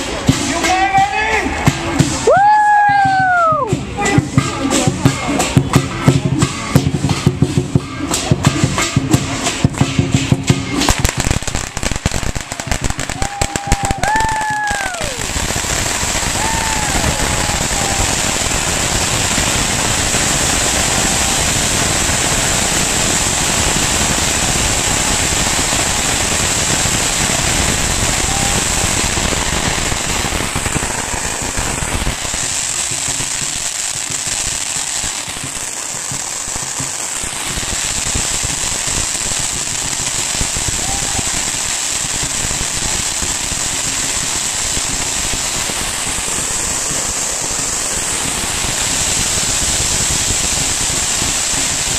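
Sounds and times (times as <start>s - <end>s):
firecrackers crackling: 0.0s - 51.9s.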